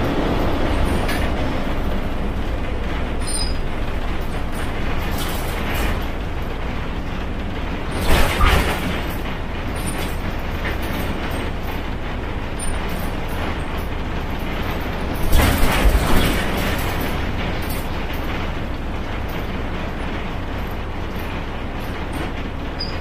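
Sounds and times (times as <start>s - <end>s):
bus engine running: 0.0s - 23.0s
knocking and rattling: 0.0s - 23.0s
road noise: 0.0s - 23.0s.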